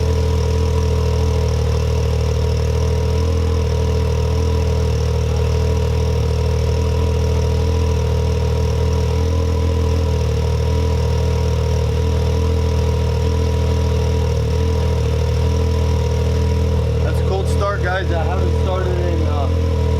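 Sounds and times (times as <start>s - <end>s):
engine idling: 0.0s - 19.9s.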